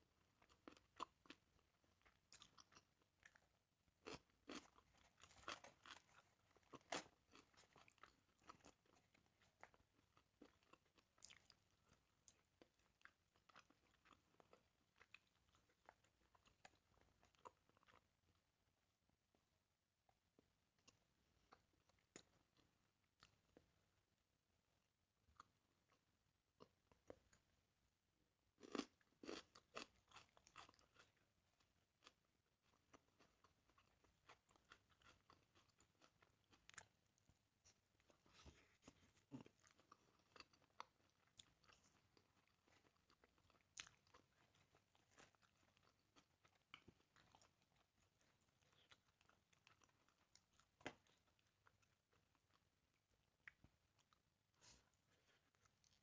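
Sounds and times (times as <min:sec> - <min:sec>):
soft chewing: 0:00.0 - 0:24.2, 0:25.2 - 0:27.7, 0:28.6 - 0:56.0.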